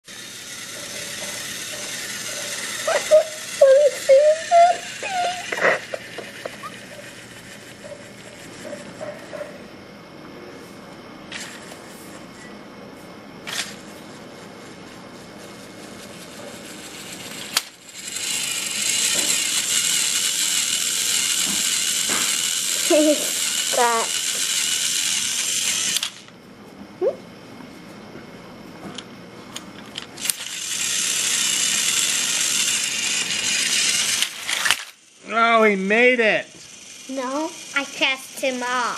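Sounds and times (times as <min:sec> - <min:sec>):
toy train rattling whir: 0:00.0 - 0:09.6, 0:11.3 - 0:12.5, 0:13.4 - 0:26.3, 0:29.8 - 0:38.9.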